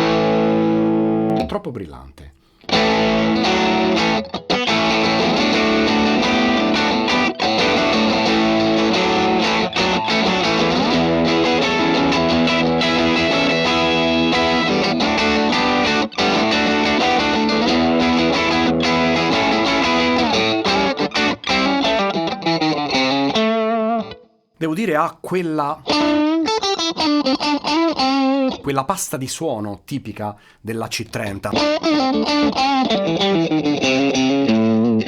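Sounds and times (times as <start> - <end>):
electric guitar chords: 0.0 - 1.6, 2.6 - 24.3, 25.4 - 28.6, 31.5 - 35.0.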